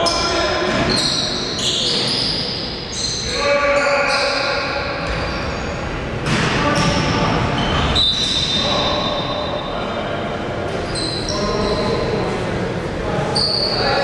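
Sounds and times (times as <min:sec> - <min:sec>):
basketball play in a gym: 0:00.0 - 0:14.0
voices echoing in a gym: 0:00.0 - 0:14.0.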